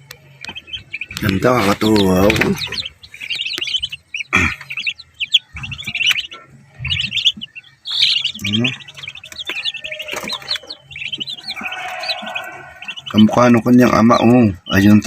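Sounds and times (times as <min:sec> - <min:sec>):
ducklings and chicks peeping: 0:00.0 - 0:15.0.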